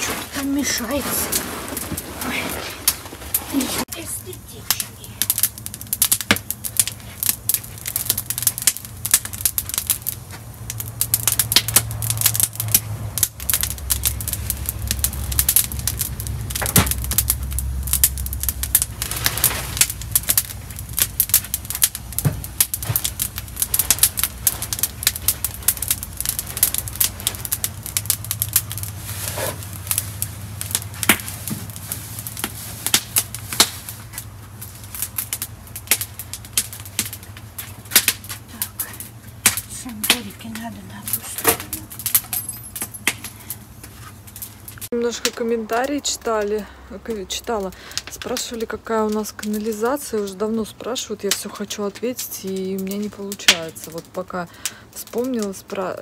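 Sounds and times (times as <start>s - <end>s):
low rumble: 0.0s - 46.9s
wood fire crackling and popping: 0.0s - 56.0s.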